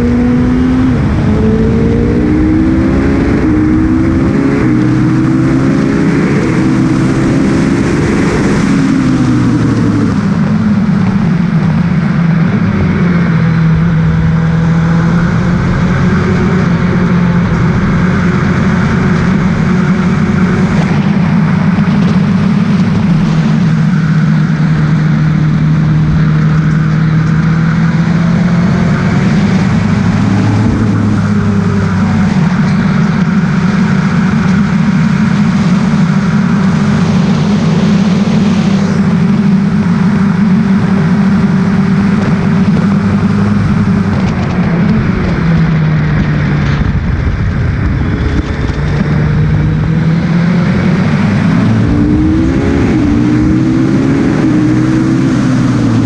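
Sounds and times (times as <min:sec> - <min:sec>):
racing car engine running: 0:00.0 - 0:56.0.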